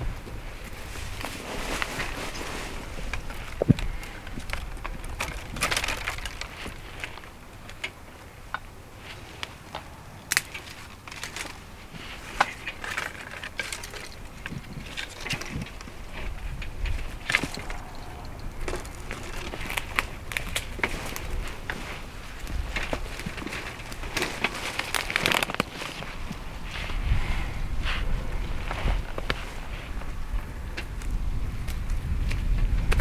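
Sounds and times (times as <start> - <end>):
twigs snapping: 0.2 - 27.0, 28.6 - 33.0
footsteps through dry leaves: 0.5 - 7.3, 10.4 - 30.3.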